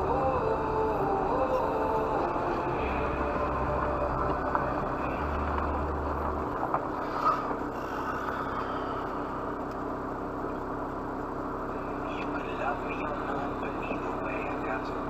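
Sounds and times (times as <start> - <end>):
car engine and road noise: 0.0 - 15.0
low drone: 0.0 - 15.0.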